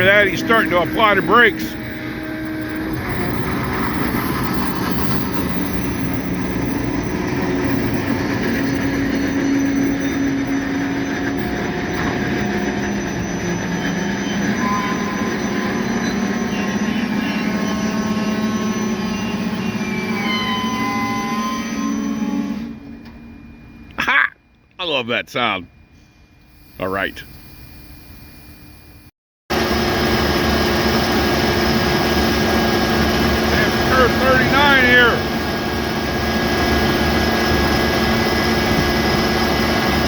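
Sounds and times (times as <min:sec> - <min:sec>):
train brakes squealing: 0:00.0 - 0:23.9, 0:30.3 - 0:40.0
train cars rumbling and rattling: 0:00.0 - 0:23.9, 0:29.5 - 0:40.0.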